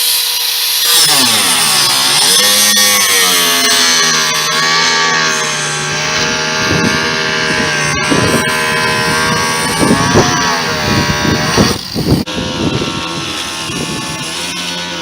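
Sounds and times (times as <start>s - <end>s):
small motor whining: 0.0s - 15.0s.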